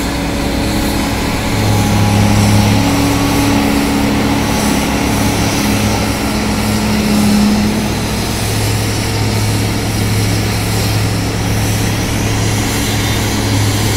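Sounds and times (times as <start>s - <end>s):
excavator diesel engine droning: 0.0s - 13.9s.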